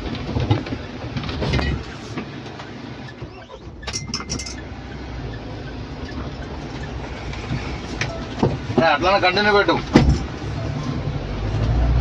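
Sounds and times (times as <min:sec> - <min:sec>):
off-road vehicle engine rumble: 0:00.0 - 0:12.0.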